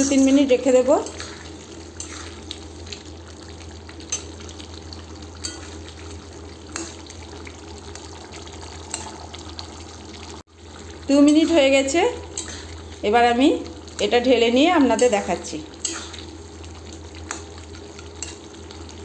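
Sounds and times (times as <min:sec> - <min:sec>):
curry simmering with hiss: 0:00.0 - 0:19.0.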